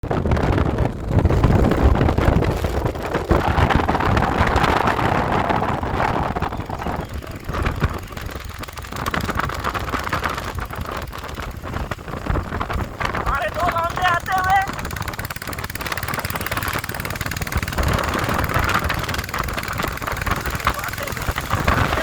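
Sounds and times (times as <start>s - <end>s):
motorcycle noise: 0.0s - 22.0s
wind buffeting microphone: 0.0s - 22.0s.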